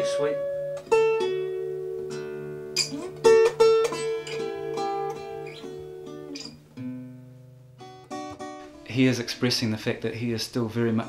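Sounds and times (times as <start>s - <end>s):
acoustic guitar fingerpicking: 0.0s - 9.6s.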